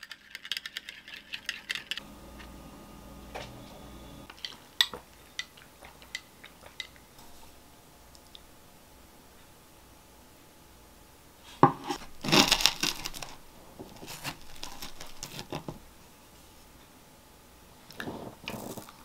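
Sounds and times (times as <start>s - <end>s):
faint low hum: 2.0s - 19.0s.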